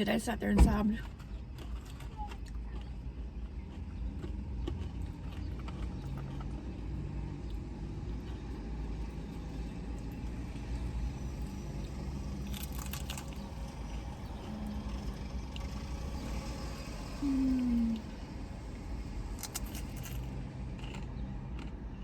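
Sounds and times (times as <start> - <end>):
car engine idling: 3.0 - 21.0.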